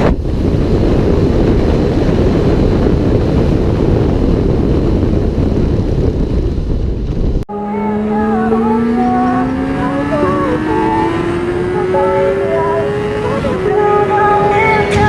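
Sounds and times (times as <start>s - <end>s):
wind roar buffeting microphone: 0.0s - 15.0s.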